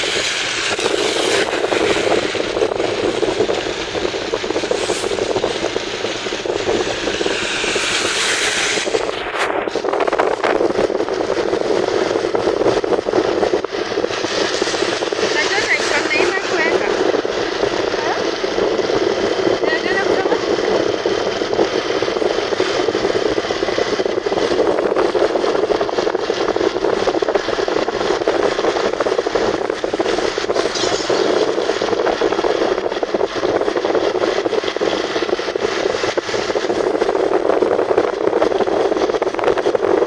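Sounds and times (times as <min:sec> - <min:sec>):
heavy rain falling: 0:00.0 - 0:39.8.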